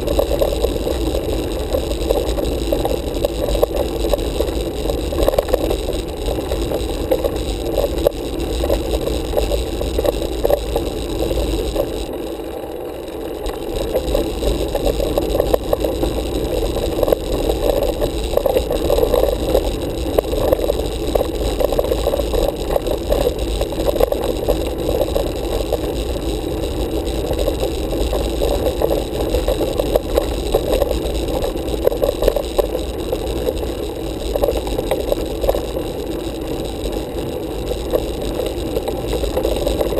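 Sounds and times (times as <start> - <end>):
bicycle rolling over rough tarmac: 0.0 - 39.9.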